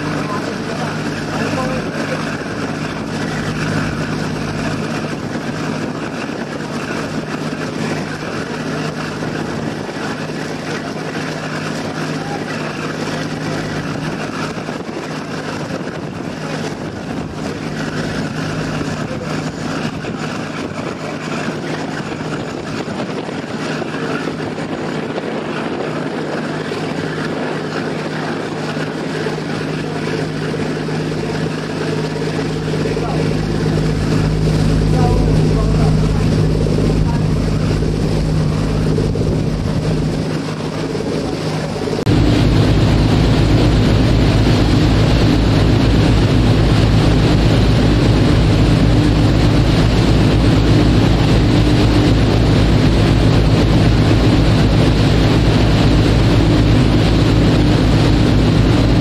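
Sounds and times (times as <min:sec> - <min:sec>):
ferry engines droning: 0:00.0 - 0:24.7, 0:25.4 - 0:59.0
constant rushing noise: 0:00.0 - 0:59.0.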